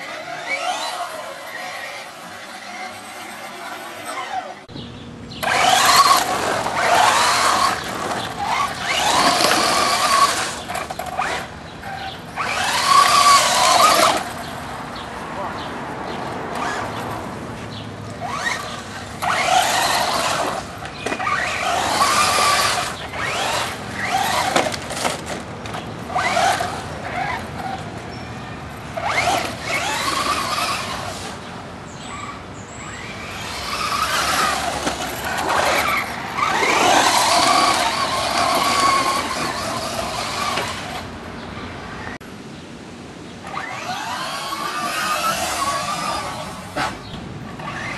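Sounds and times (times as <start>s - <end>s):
rc truck drivetrain whine: 0.0s - 42.3s, 43.4s - 47.9s
tyres on ground: 0.0s - 47.9s.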